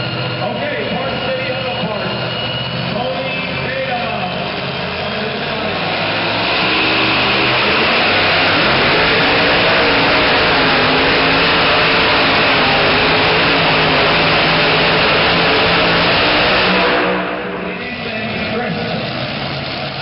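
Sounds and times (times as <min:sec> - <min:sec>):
truck engine at full throttle: 0:00.0 - 0:20.0.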